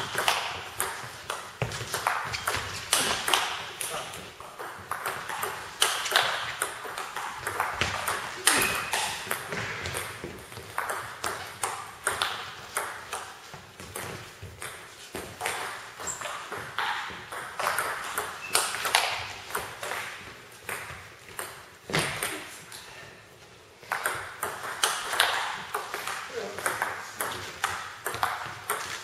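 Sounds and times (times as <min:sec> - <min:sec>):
table tennis ball pinging: 0:00.0 - 0:22.8, 0:23.8 - 0:29.0.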